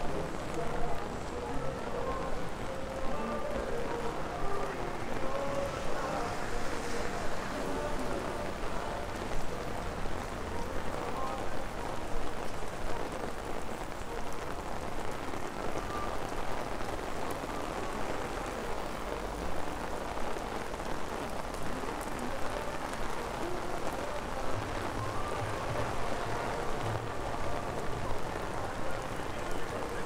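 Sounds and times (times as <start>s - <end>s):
rain hissing on street: 0.0s - 30.0s.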